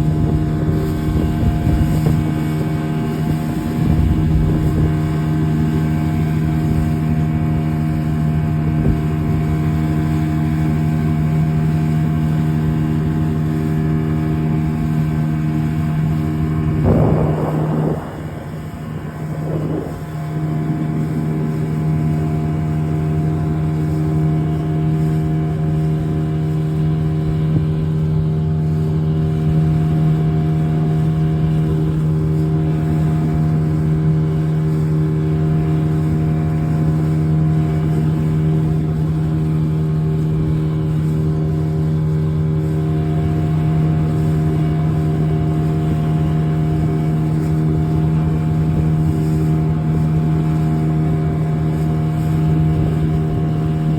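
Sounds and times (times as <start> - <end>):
boat engine humming: 0.0 - 53.9.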